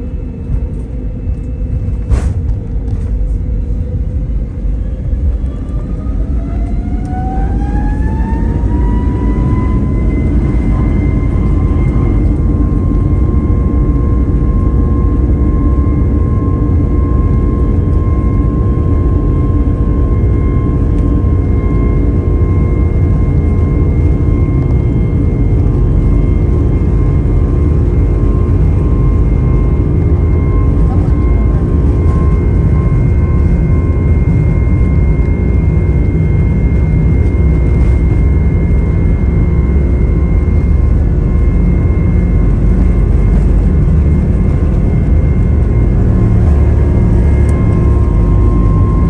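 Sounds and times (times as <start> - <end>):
jet engines spooling up: 0.1 - 49.0.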